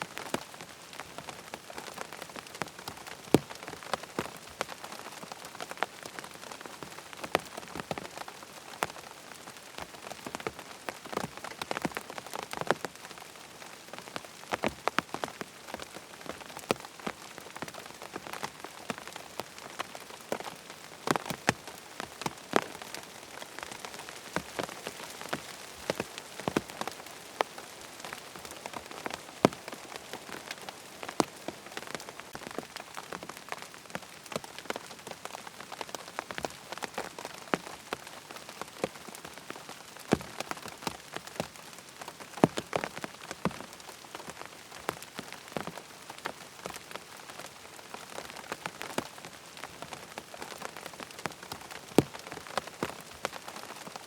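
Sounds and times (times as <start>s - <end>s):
rain pattering on tent fabric: 0.0s - 54.0s.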